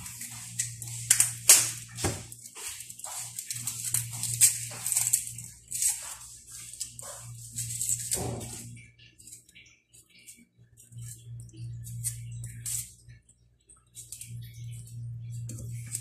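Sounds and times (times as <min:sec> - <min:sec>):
onion skin crackling as peeled: 0:00.0 - 0:13.1, 0:14.0 - 0:16.0
faint low hum: 0:00.0 - 0:16.0.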